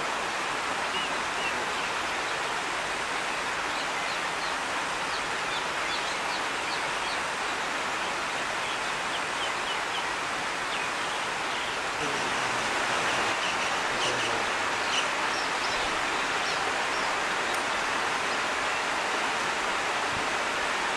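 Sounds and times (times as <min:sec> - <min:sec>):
rushing outdoor noise: 0:00.0 - 0:20.9
small birds chirping: 0:00.8 - 0:19.1.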